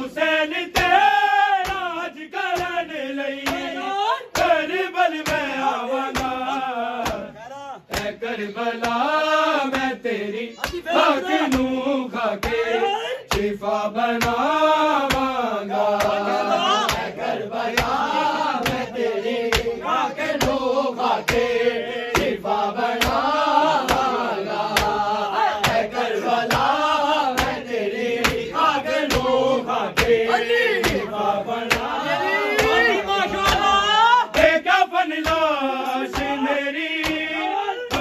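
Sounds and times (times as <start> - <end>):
men chanting a lament: 0.0 - 38.0
hands slapping chests: 0.2 - 38.0.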